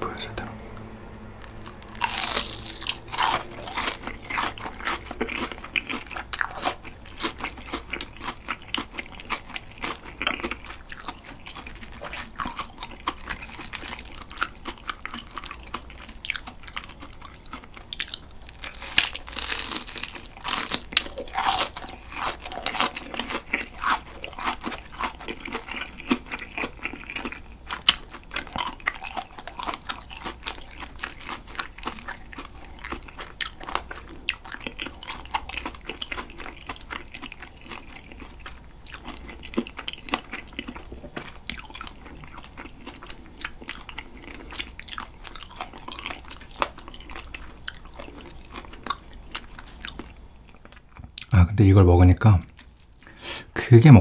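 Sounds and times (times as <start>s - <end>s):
crunchy chewing: 1.4s - 51.3s.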